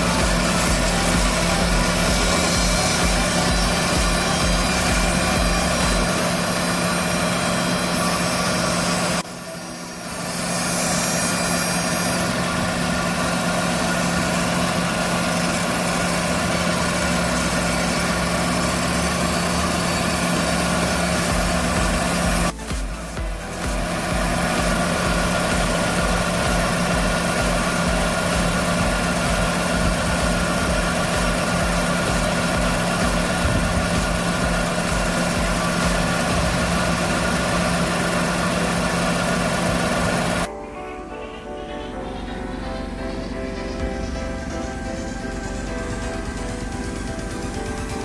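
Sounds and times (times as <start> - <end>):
small car engine idling: 0.0 - 48.0.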